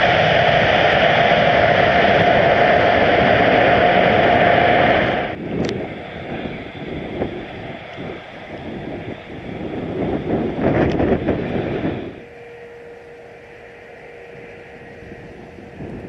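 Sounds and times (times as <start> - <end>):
gusty wind on microphone: 0.0 - 12.4, 13.3 - 16.0
faint steady hum: 0.0 - 16.0.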